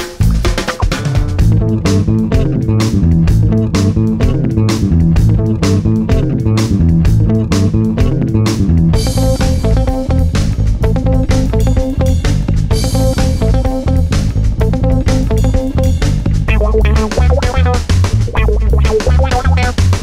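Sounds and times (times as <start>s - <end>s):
bass guitar: 0.0s - 20.0s
guitar: 0.0s - 20.0s
steady beat: 0.0s - 20.0s.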